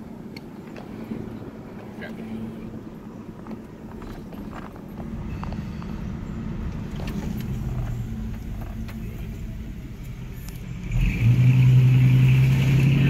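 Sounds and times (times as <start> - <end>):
car engine and road noise: 0.0 - 13.0
low engine hum: 0.0 - 13.0.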